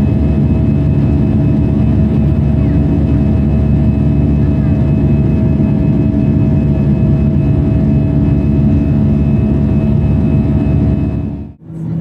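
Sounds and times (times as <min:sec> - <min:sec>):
jet engine rumble and whine: 0:00.0 - 0:12.0.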